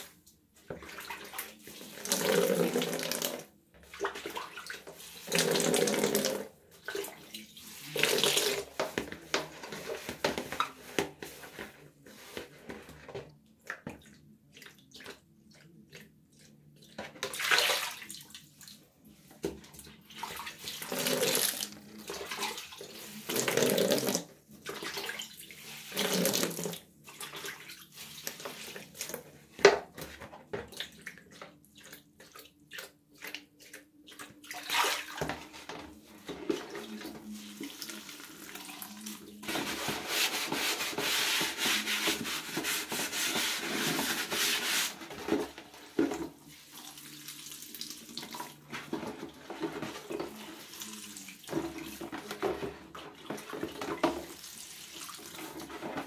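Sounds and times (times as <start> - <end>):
water sloshing and splashing: 0.0 - 56.0.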